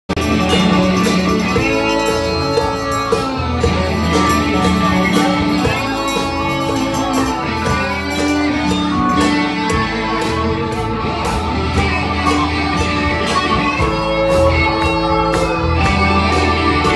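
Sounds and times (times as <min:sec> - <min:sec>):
drum kit: 0:00.1 - 0:16.9
electric guitars: 0:00.1 - 0:16.9
electric keyboard: 0:00.1 - 0:16.9.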